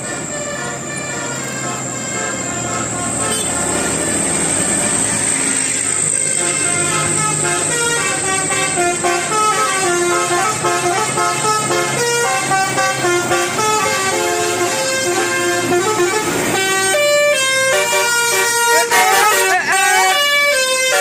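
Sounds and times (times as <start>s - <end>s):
multi-tone bus horn playing tune: 0.0s - 21.0s.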